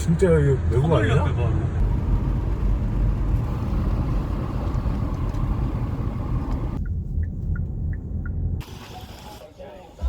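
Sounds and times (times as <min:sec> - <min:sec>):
vehicle ride rumble: 0:00.0 - 0:10.0.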